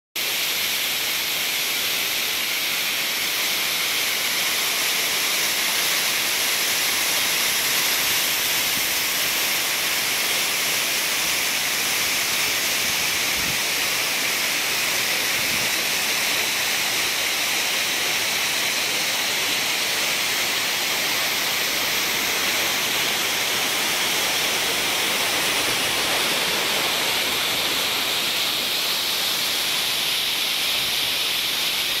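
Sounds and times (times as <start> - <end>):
waterfall rushing: 0.2 - 32.0.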